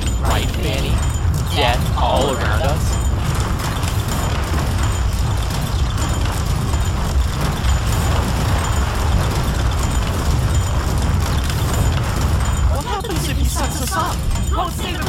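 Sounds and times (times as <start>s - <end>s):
deep rumbling destruction roar: 0.0s - 15.0s.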